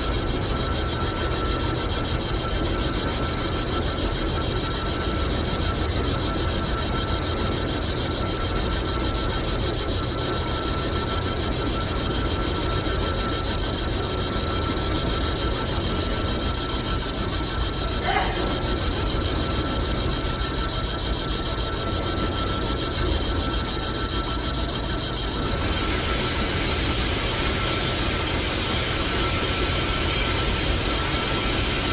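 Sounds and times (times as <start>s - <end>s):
metal lathe cutting: 5.0s - 31.9s.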